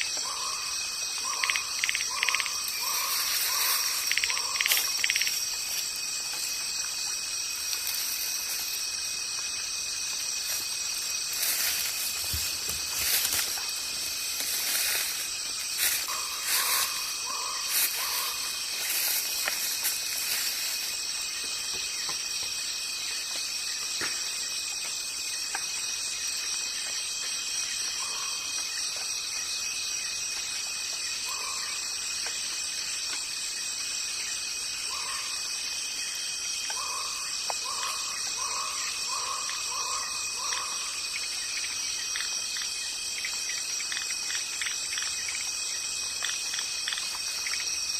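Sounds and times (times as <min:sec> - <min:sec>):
insects buzzing: 0:00.0 - 0:47.9.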